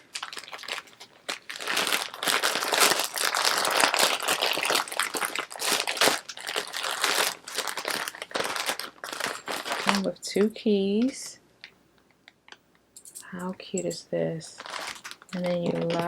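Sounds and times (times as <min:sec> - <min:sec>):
plastic packaging crinkling: 0:00.0 - 0:11.3, 0:13.6 - 0:16.0.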